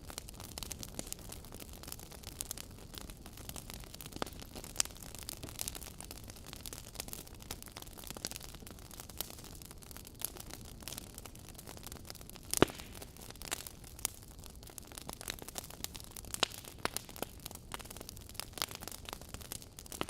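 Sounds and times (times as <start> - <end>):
fireplace crackling: 0.0 - 20.0.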